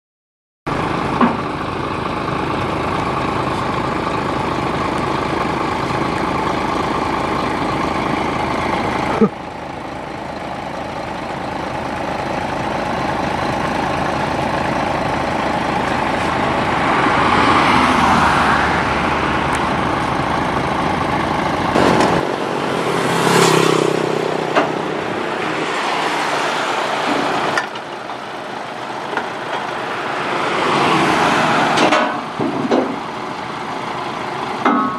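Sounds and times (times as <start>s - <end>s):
passing road traffic: 0.7s - 34.9s
truck diesel engine idling: 0.7s - 34.9s.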